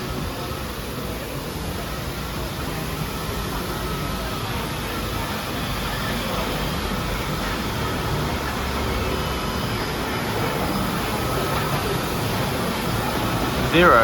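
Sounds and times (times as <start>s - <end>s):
building machinery rumble and hiss: 0.0s - 14.0s.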